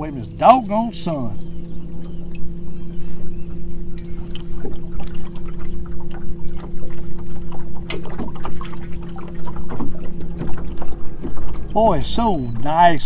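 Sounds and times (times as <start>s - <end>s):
electric trolling motor humming: 0.0s - 13.0s.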